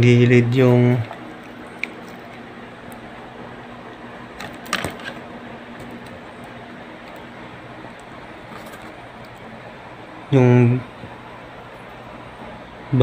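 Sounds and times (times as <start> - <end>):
steady low hum and hiss: 0.0 - 13.0.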